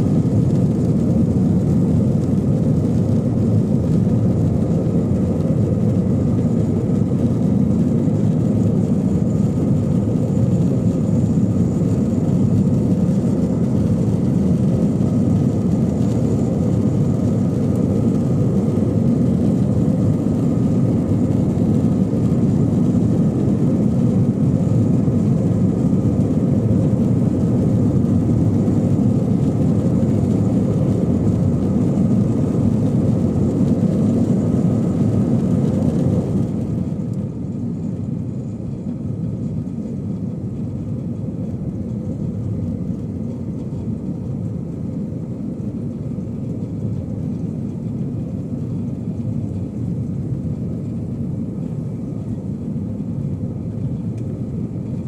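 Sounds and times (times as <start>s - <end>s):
jet engine and airflow in cabin: 0.0s - 55.0s.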